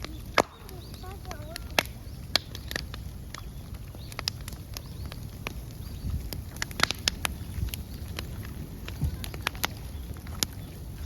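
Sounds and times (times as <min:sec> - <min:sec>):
bamboo crackling and popping: 0:00.0 - 0:11.0
fire rushing: 0:00.0 - 0:11.0.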